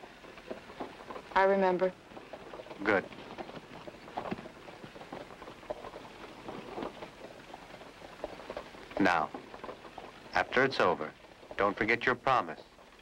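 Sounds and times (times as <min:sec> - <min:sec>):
small clicks and ticks: 0:00.0 - 0:13.0.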